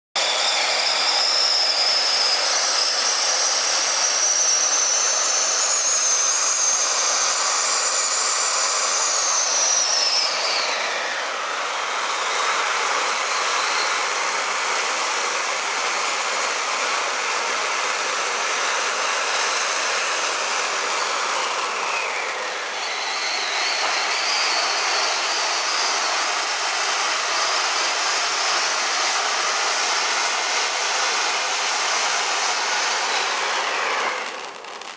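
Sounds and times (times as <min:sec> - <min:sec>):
high whistling tone: 0:00.2 - 0:34.8
fireworks fountain hissing: 0:00.2 - 0:34.9.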